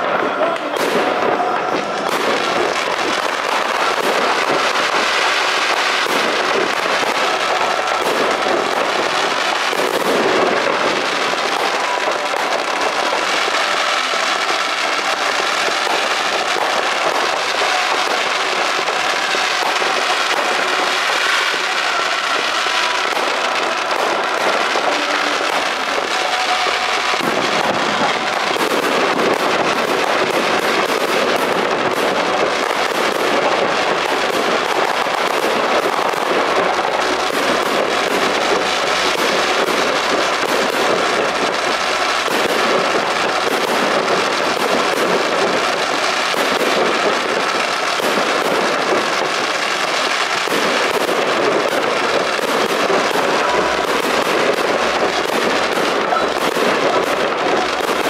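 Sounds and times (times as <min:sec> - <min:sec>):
fireworks crackling and fizzing: 0:00.0 - 0:58.0.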